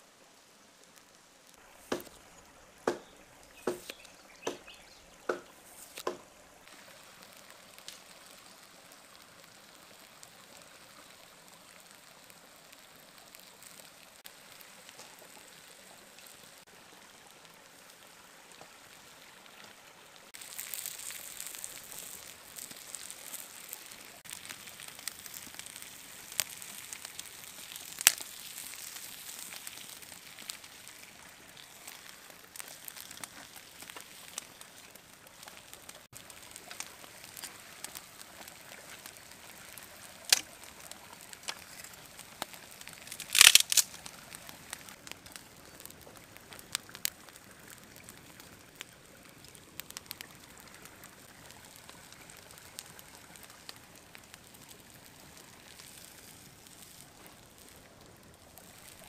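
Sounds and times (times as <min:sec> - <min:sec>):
food sizzling on hot stone: 0:00.0 - 0:59.0.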